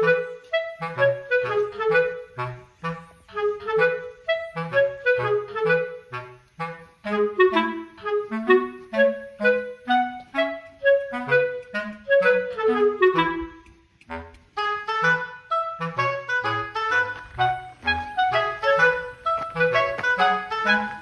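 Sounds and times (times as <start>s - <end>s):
playful woodwind tune: 0.0s - 21.0s.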